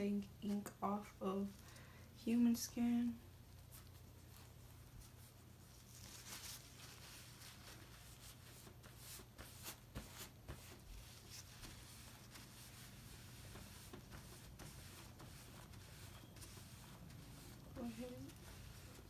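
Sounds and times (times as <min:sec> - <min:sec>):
paper towel rubbing and rustling: 0:03.4 - 0:19.0.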